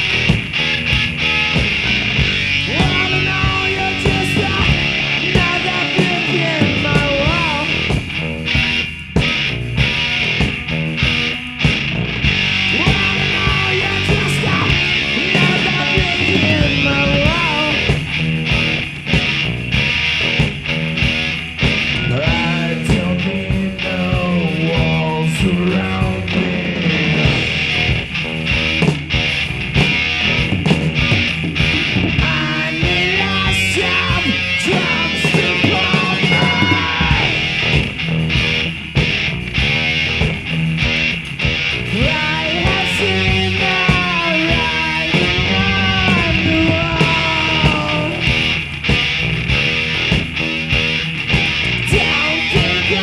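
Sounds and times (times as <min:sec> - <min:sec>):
drums: 0:00.0 - 0:53.0
electric guitar lead line: 0:00.0 - 0:53.0
rock band playing: 0:00.0 - 0:53.0.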